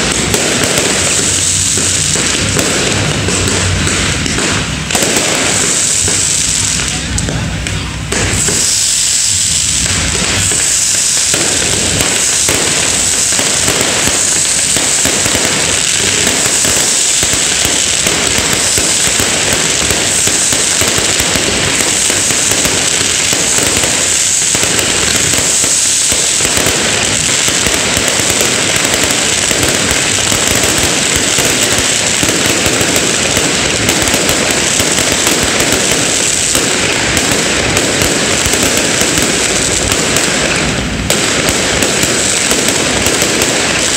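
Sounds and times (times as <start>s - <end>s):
fireworks and firecrackers crackling: 0.0s - 43.9s.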